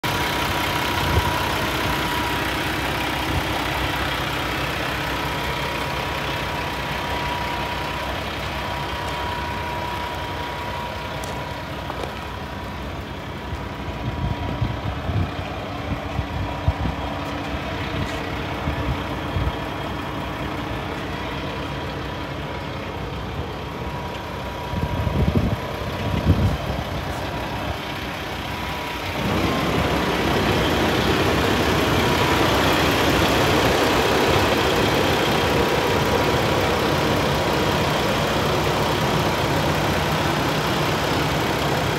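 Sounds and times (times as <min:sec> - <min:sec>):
diesel engine idling: 0:00.0 - 0:41.9
thin steady whine: 0:00.4 - 0:41.9.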